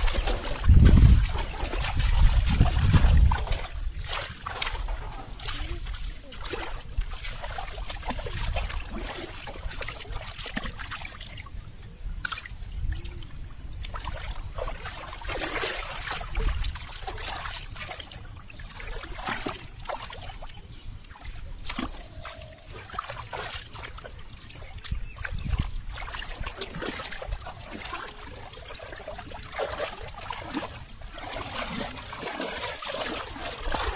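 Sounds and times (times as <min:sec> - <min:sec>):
muddy water splashing and sloshing: 0:00.0 - 0:33.9.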